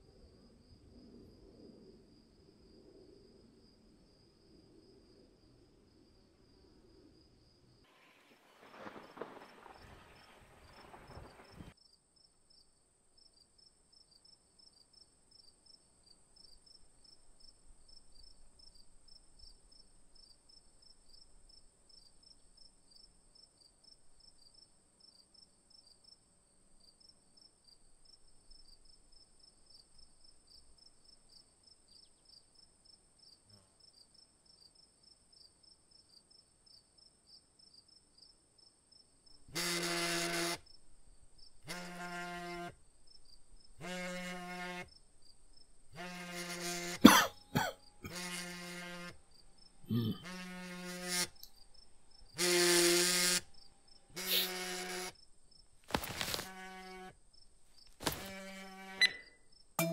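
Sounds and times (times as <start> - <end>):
crickets chirping: 0.0 - 59.8.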